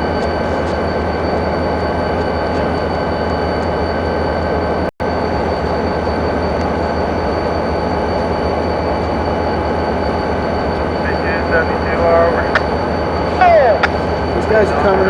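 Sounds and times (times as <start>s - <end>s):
diesel locomotive running: 0.0s - 15.0s.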